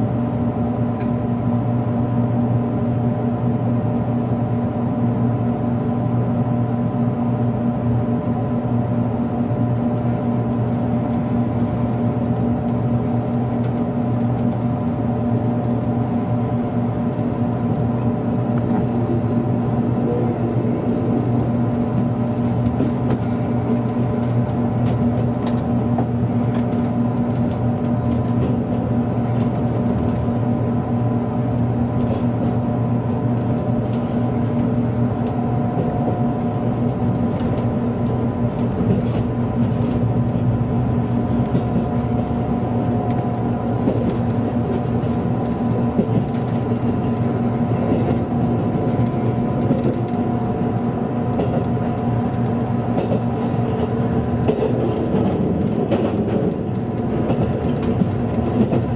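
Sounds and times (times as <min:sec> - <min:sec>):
train running rumble: 0:00.0 - 0:58.9.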